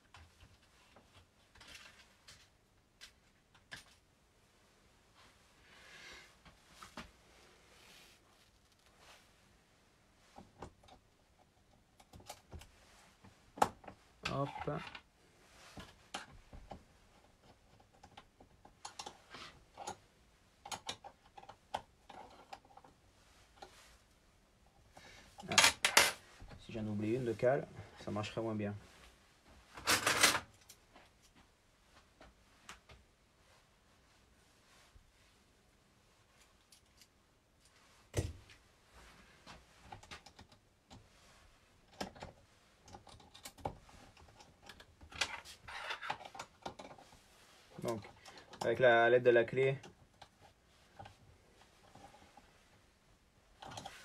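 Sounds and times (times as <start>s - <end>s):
soft rustle: 0.1s - 11.8s, 12.4s - 17.9s, 22.0s - 25.4s, 26.2s - 29.8s, 30.5s - 43.0s, 43.6s - 54.0s.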